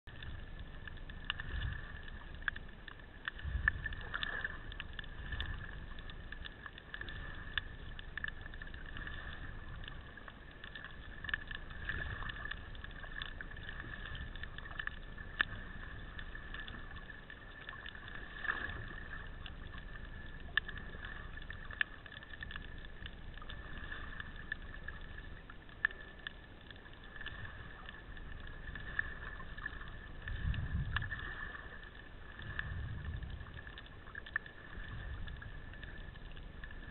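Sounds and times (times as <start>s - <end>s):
muffled underwater hiss: 0.1s - 36.9s.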